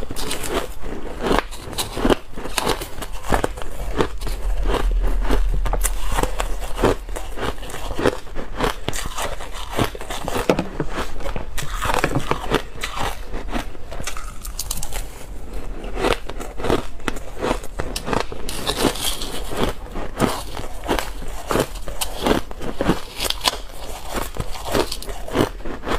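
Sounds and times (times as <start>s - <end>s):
ice being chewed: 0.0s - 4.7s, 7.4s - 25.9s.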